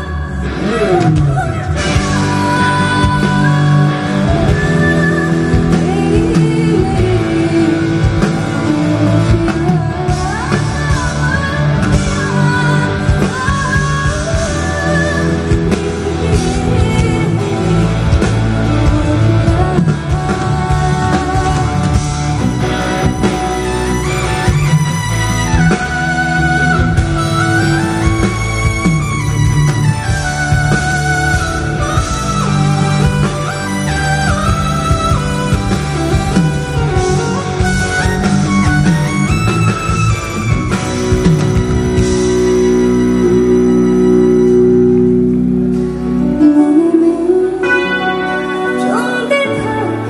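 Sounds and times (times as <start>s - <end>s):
woman singing: 0.0s - 40.2s, 46.3s - 50.0s
live band playing: 0.0s - 50.0s.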